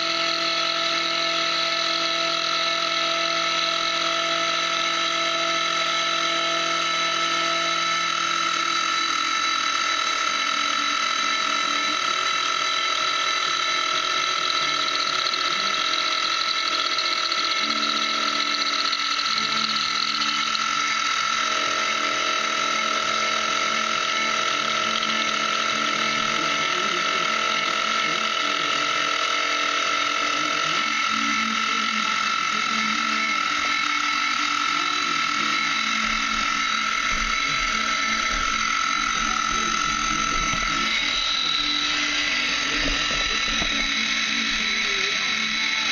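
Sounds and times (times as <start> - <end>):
milling machine cutting metal: 0.0 - 45.9.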